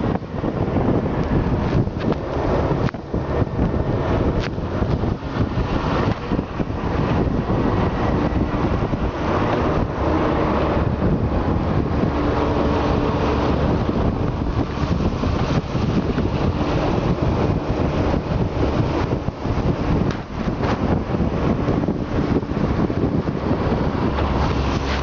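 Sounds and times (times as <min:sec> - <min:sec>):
motorcycle engine humming: 0:00.0 - 0:25.0
road noise: 0:00.0 - 0:25.0
wind buffeting microphone: 0:00.0 - 0:25.0.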